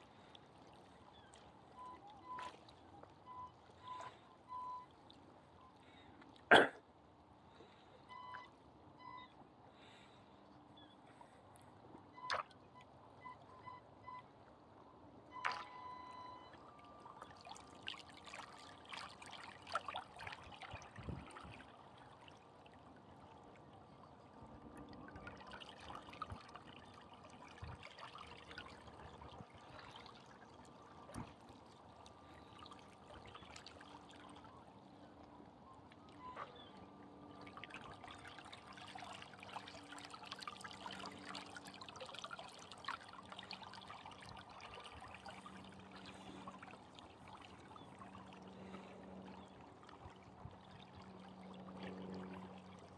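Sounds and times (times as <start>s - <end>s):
water lapping at shore: 0.0s - 52.9s.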